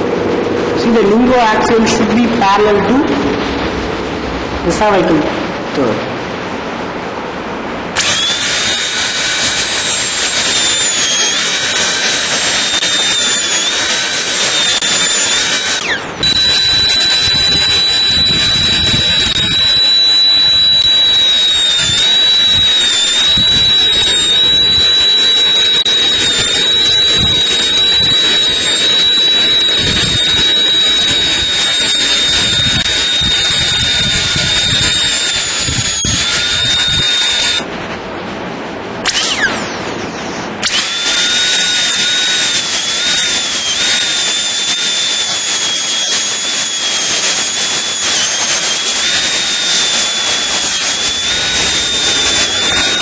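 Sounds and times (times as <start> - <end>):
dental drill whining: 8.0 - 37.7, 39.1 - 39.8, 40.6 - 53.0.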